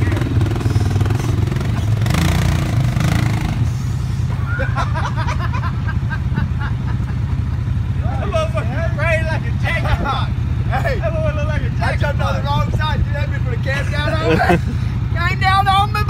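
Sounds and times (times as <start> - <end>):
atv engine under load: 0.0 - 16.0.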